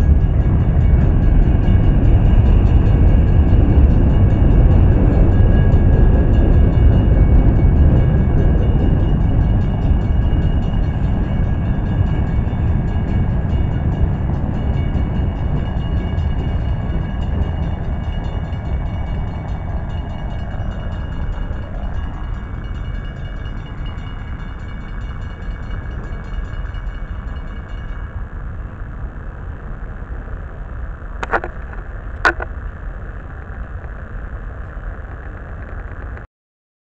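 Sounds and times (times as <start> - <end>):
train wheels rumbling on rails: 0.0 - 30.6.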